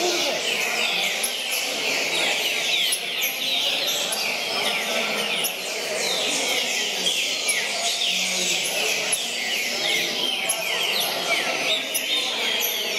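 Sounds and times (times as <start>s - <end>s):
birds singing whistled notes: 0.0s - 12.9s.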